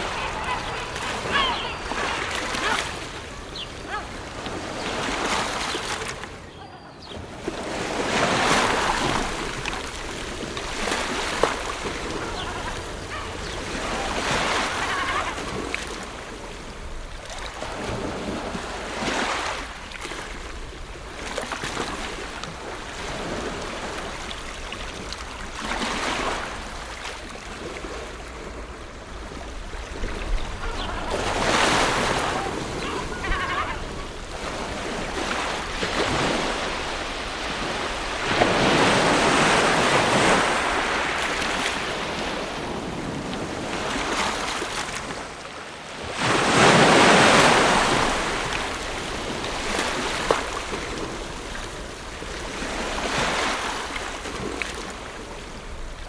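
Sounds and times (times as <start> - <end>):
low rumble of surf: 0.0 - 56.0
ocean waves washing onto shore: 0.0 - 56.0.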